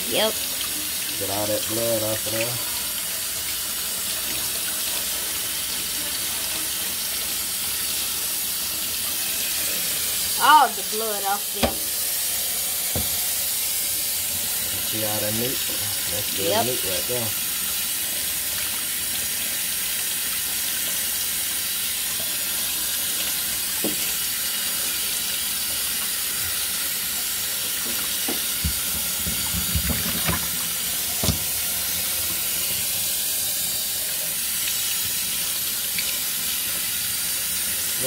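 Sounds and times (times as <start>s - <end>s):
faucet running into steel sink: 0.0s - 38.0s.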